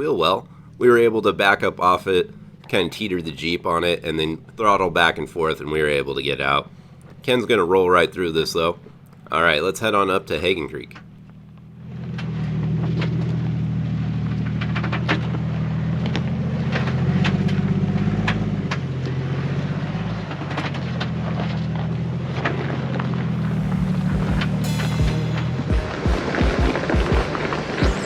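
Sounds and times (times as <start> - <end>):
car engine at low revs: 0.0 - 28.0.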